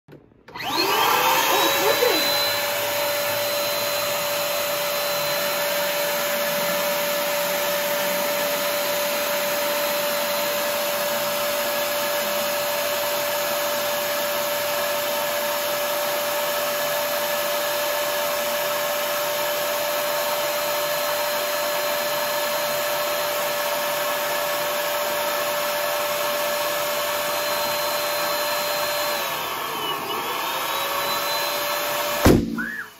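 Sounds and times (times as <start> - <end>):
electric balloon pump whining: 0.1 - 32.9.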